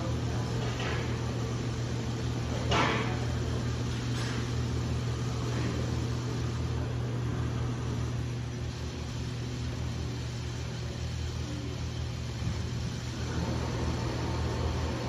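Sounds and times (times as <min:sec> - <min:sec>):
plasma cutter electrical hum: 0:00.0 - 0:15.0.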